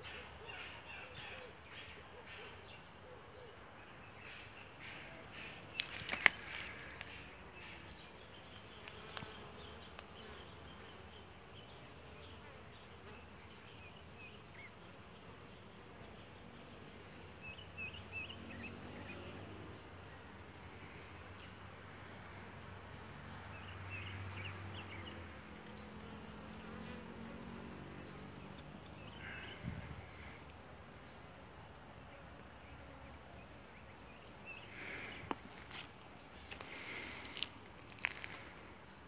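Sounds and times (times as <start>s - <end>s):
honeybees humming: 5.0s - 39.0s.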